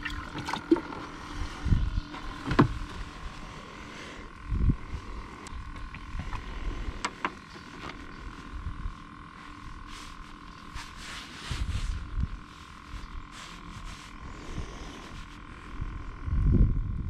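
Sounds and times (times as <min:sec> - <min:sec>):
wind rumbling on microphone: 0:00.0 - 0:07.0, 0:08.0 - 0:17.0
electric motor whine: 0:00.0 - 0:17.0.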